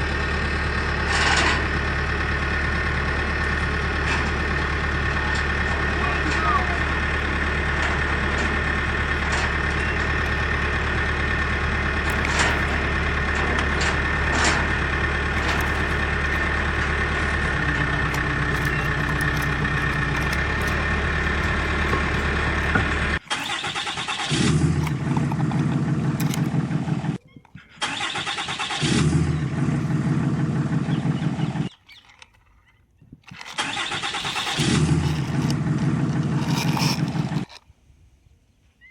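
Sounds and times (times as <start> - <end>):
vehicle engine running: 0.0 - 27.2, 28.1 - 32.3, 33.2 - 37.6
engine bursts: 0.0 - 32.4, 33.2 - 37.6.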